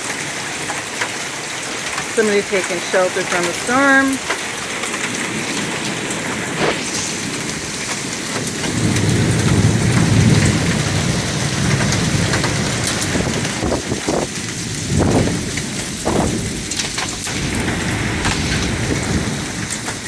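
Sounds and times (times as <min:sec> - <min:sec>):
heavy rain with hail: 0:00.0 - 0:20.0
thunder rumble: 0:02.0 - 0:20.0.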